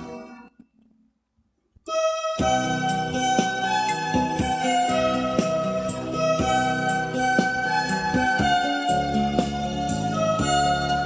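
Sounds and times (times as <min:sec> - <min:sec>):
instrumental worship music: 0:02.0 - 0:11.0.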